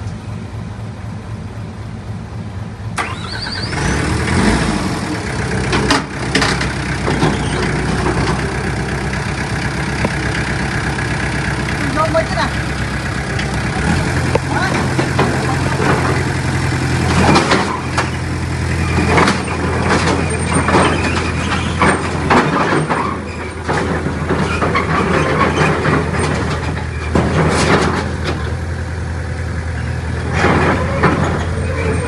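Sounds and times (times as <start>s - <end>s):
diesel earthmoving machinery: 0.0s - 32.0s.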